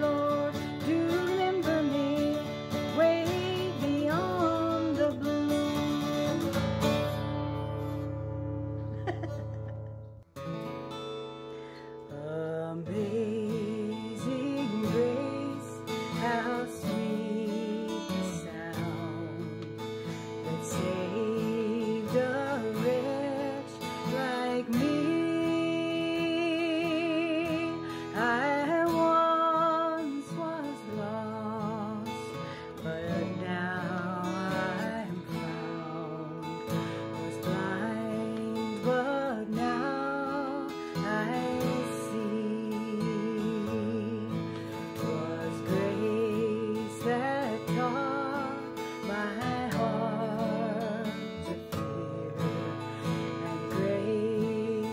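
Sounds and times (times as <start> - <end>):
woman singing: 0.0 - 8.1, 11.9 - 54.9
acoustic guitar strummed: 0.0 - 54.9.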